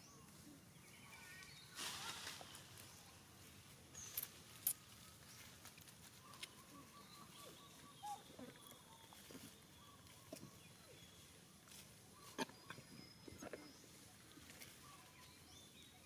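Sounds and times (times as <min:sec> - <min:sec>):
soft chirping calls: 0:00.0 - 0:16.0.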